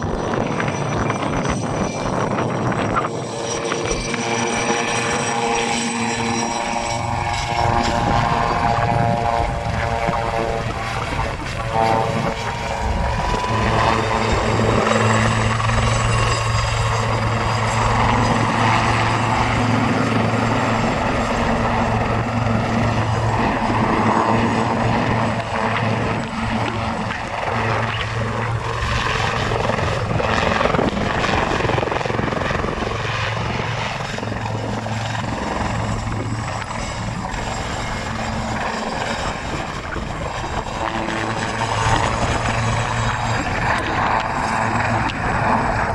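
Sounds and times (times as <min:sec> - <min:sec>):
helicopter rotor and engines humming: 0:00.0 - 0:45.9
high turbine whine: 0:00.0 - 0:45.9.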